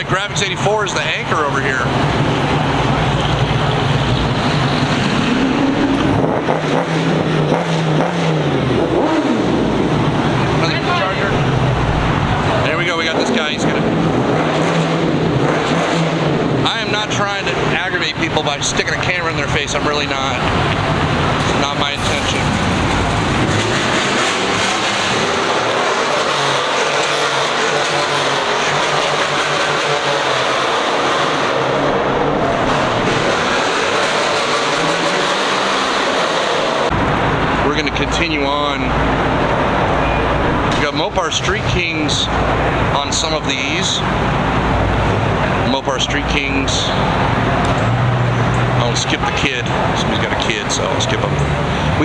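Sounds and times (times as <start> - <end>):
car engine running: 0.0 - 31.4, 32.0 - 52.0
loud background noise: 0.0 - 52.0.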